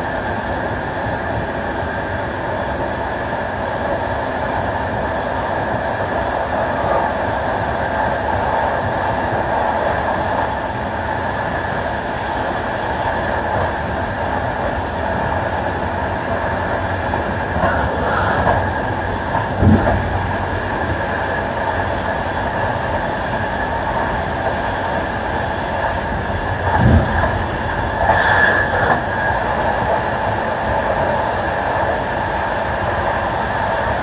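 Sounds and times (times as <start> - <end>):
train wheels rolling on track: 0.0 - 34.0.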